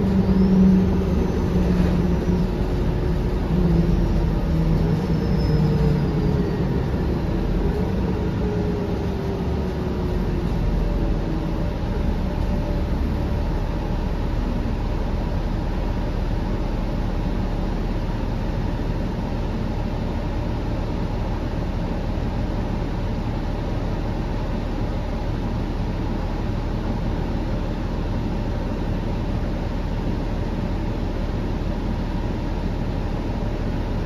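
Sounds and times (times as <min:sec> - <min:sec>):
bus engine drone from inside: 0:00.0 - 0:34.0.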